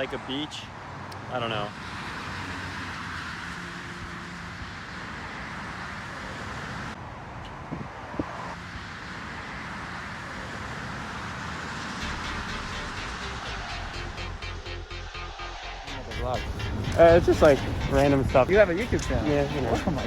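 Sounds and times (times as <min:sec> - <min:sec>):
road traffic rushing past: 0:00.0 - 0:20.0.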